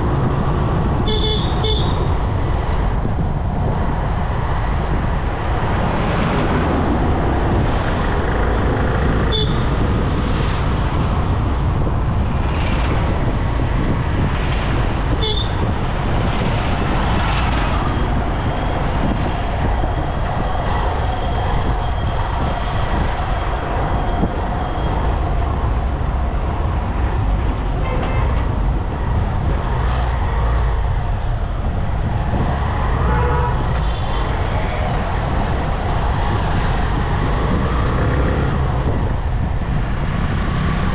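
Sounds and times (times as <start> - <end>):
highway traffic rumble: 0.0 - 40.9.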